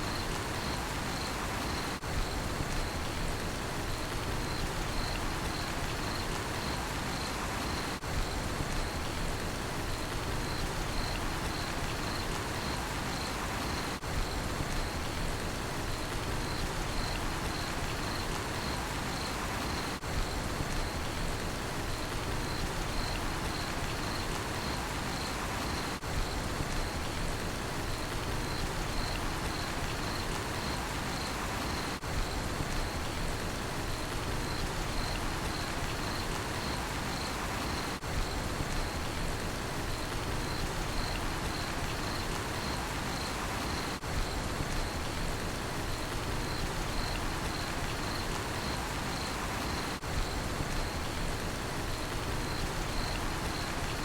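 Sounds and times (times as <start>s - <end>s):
cricket chirping: 0.0s - 3.2s, 3.8s - 8.1s, 9.9s - 15.2s, 15.9s - 21.2s, 21.9s - 27.2s, 27.8s - 33.2s, 33.9s - 39.2s, 39.8s - 54.0s
steady rainfall: 0.0s - 54.0s.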